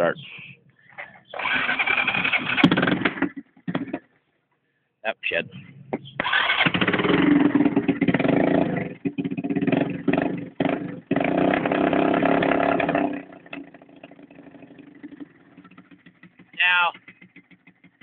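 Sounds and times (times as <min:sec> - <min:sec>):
quad engine revving: 0:01.3 - 0:04.0, 0:06.2 - 0:18.0.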